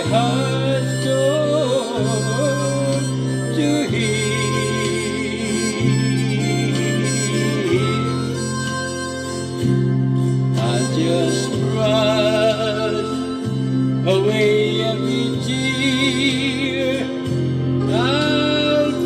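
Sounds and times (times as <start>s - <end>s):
bass and guitar backing: 0.0s - 19.0s
wavering lead melody: 0.0s - 19.0s.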